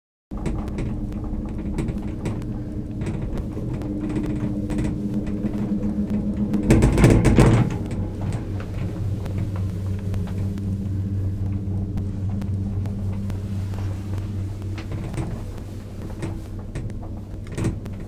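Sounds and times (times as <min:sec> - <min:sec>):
gondola cabin humming on cable: 0:00.3 - 0:18.0
cabin clattering over wheels: 0:00.4 - 0:18.0.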